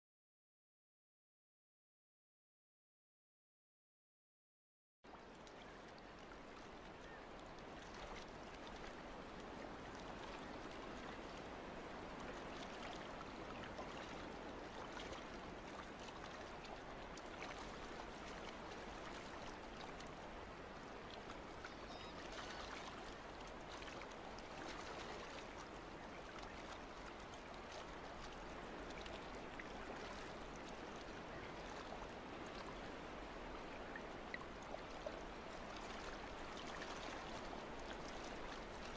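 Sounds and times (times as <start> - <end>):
water sloshing against hull: 5.1 - 38.9.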